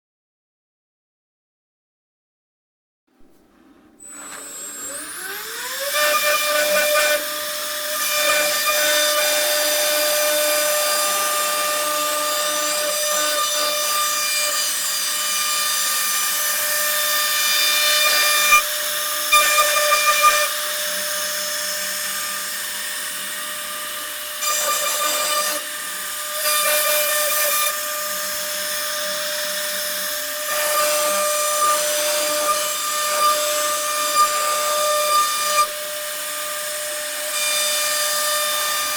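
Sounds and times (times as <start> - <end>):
router bit cutting wood: 3.4 - 38.9
router spindle whine: 3.5 - 38.9.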